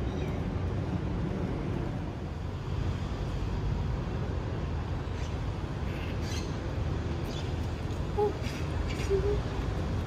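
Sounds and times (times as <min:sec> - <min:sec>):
distant road traffic: 0:00.0 - 0:10.0.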